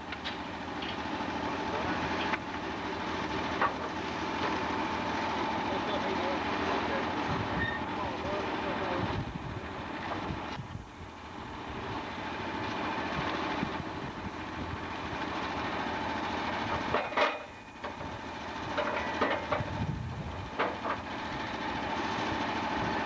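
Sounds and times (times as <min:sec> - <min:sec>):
sawmill machine noise: 0:00.0 - 0:23.0.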